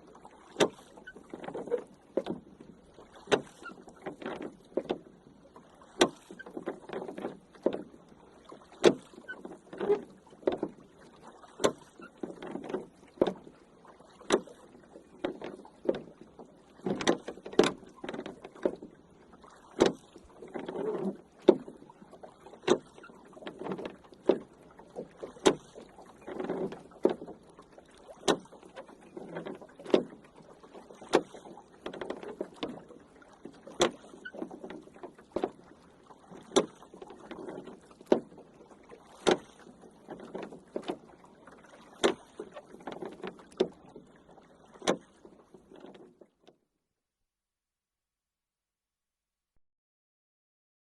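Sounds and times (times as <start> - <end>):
oar blades splashing water: 0.0 - 46.6
oars knocking in oarlocks: 0.4 - 5.2, 5.9 - 8.0, 8.6 - 10.8, 11.5 - 13.5, 14.2 - 19.0, 19.6 - 46.5.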